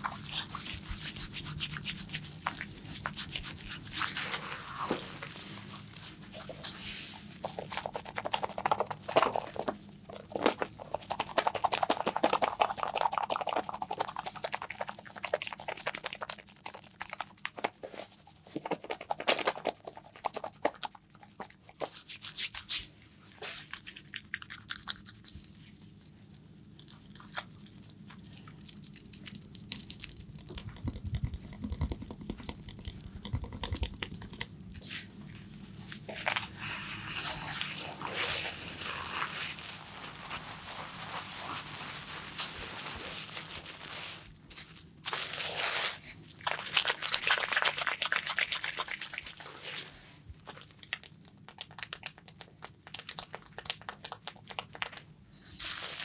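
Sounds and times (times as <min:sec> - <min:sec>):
hands rubbing and patting skin: 0:00.0 - 0:56.0.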